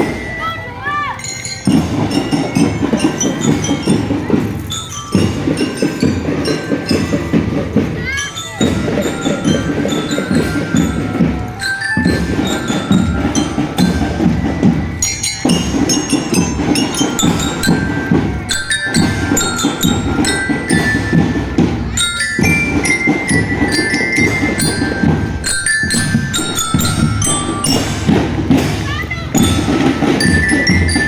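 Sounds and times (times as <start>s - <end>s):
marching drums: 0.0s - 31.0s
marching glockenspiel melody: 0.0s - 31.0s.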